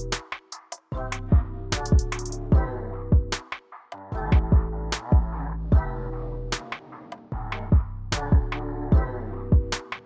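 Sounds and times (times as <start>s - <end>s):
electronic music with a beat: 0.0s - 10.0s.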